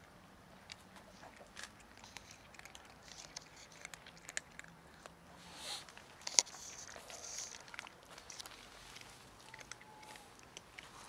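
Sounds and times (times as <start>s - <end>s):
cats crunching dry kibble: 0.0s - 11.0s.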